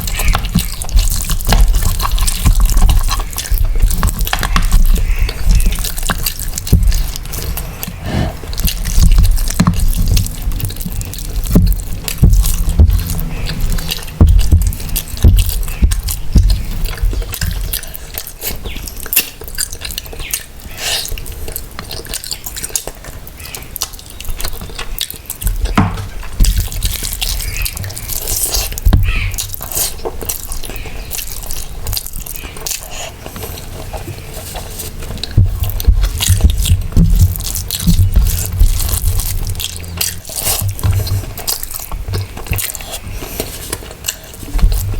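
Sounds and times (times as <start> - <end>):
wet chewing and smacking: 0.0 - 44.9.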